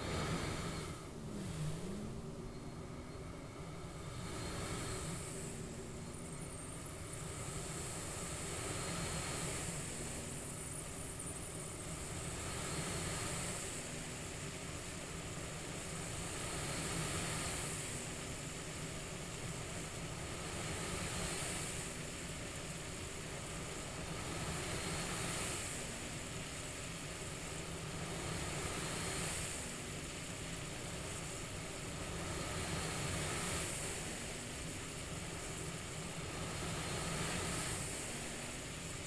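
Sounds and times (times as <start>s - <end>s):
cpap airflow hiss: 0.0s - 2.1s, 3.5s - 39.0s.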